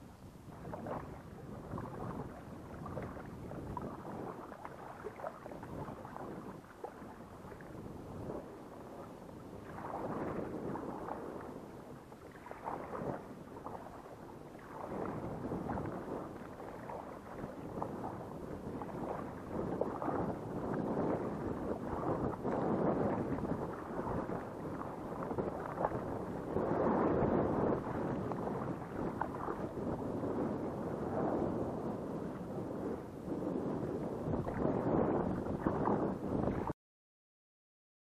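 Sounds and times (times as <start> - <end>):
wind on microphone: 0.0 - 36.8
water sloshing against hull: 0.4 - 36.7.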